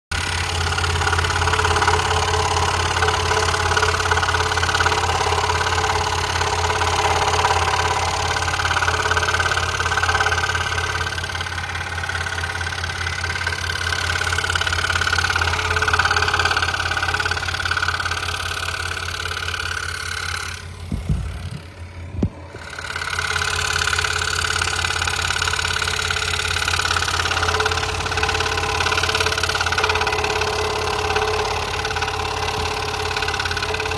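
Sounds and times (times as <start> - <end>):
scroll saw motor hum: 0.2 - 33.9.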